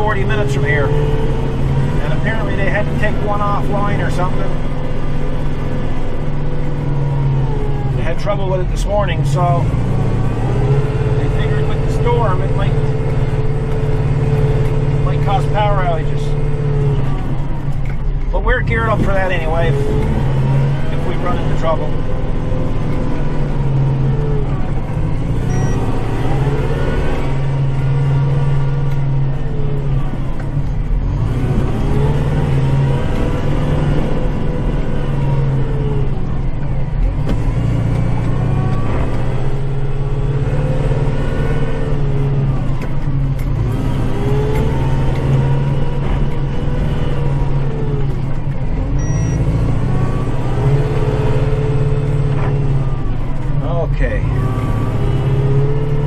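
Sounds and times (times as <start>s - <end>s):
drivetrain whine: 0.0s - 56.0s
tractor engine under load: 0.0s - 56.0s.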